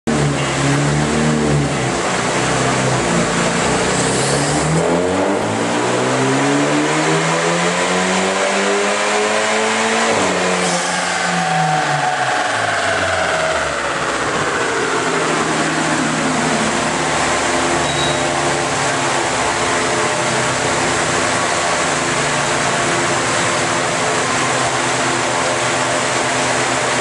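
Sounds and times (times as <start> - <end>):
car engine revving: 0.1 - 27.0.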